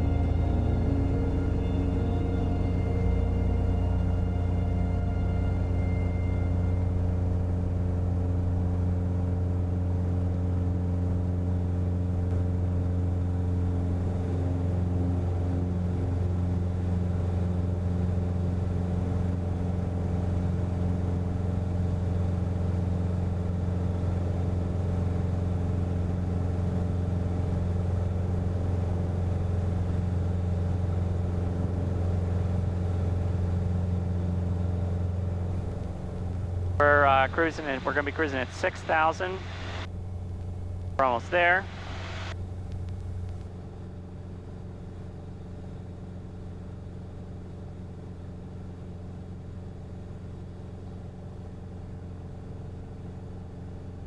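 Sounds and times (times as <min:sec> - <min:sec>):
light aircraft engine drone: 0:00.0 - 0:43.5.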